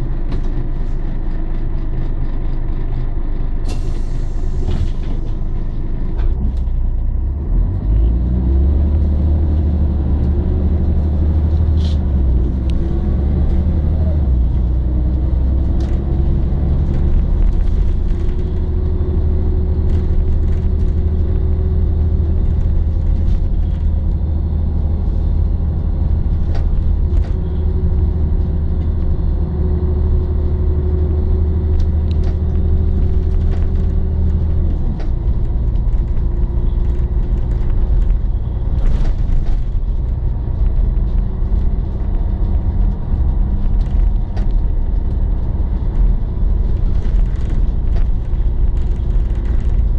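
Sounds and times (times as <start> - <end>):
bus diesel engine droning: 0.0 - 49.9.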